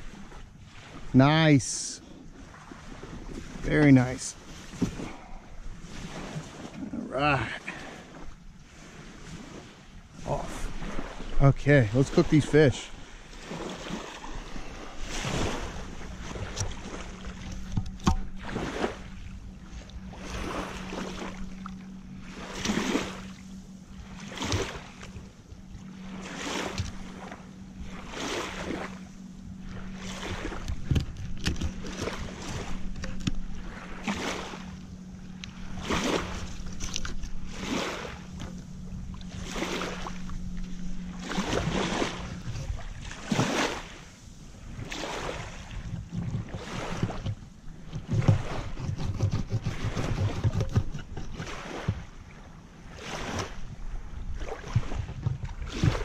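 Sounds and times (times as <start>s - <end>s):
small waves washing on shore: 0.0s - 56.0s
steady low hum: 0.0s - 56.0s
wind: 0.0s - 56.0s.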